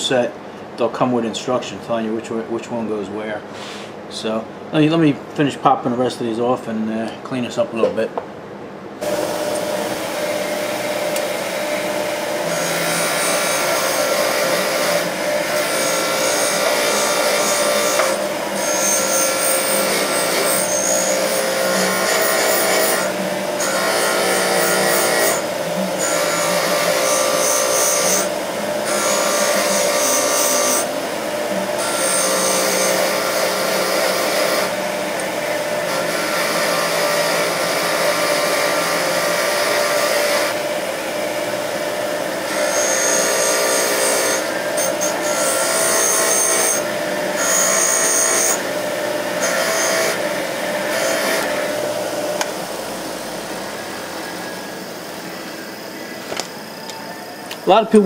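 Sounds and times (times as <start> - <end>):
grinder motor hum: 9.0 - 58.0.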